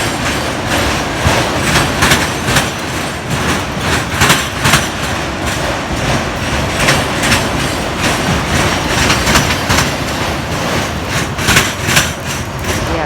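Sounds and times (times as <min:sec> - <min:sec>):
train rumble: 0:00.0 - 0:13.0
train wheels clacking over rail joints: 0:00.0 - 0:13.0.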